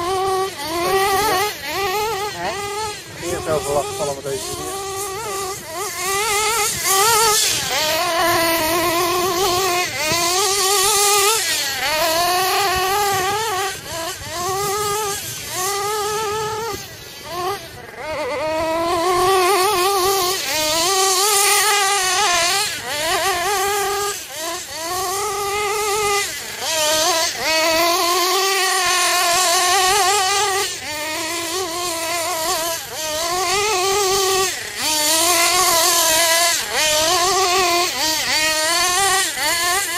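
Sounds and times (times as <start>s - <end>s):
model car engine revving: 0.0s - 39.9s.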